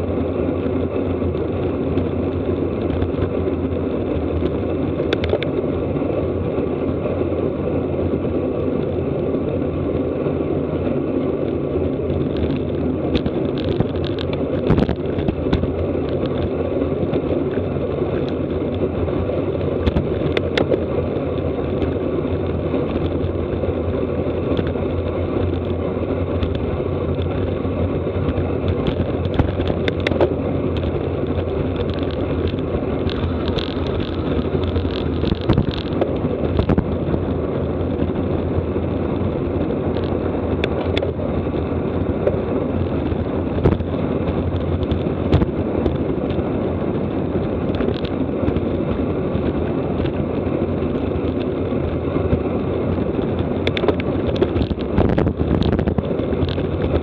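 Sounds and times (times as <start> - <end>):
sharp clicks and rattles: 0.0 - 7.4, 8.0 - 57.0
wind rushing over microphone: 0.0 - 57.0.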